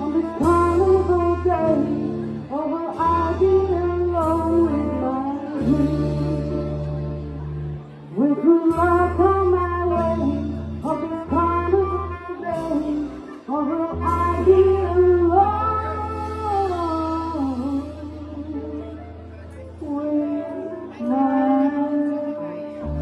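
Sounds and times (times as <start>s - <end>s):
jazz blues band playing live: 0.0s - 23.0s
person singing long notes: 0.0s - 23.0s.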